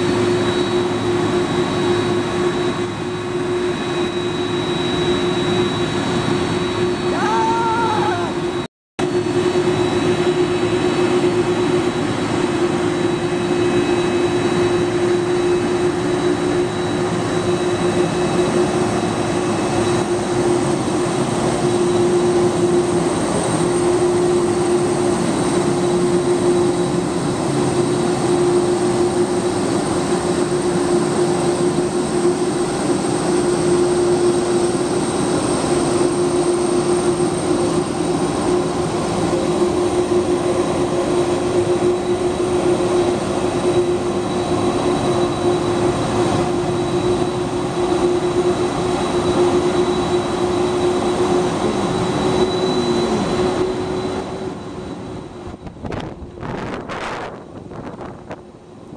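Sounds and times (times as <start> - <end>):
jet engines idling: 0.0 - 58.9.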